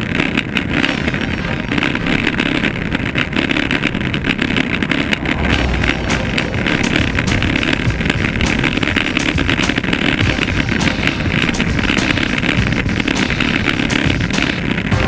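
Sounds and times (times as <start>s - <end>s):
tyres rumbling on tarmac: 0.0s - 15.0s
wind buffeting microphone: 1.8s - 14.9s.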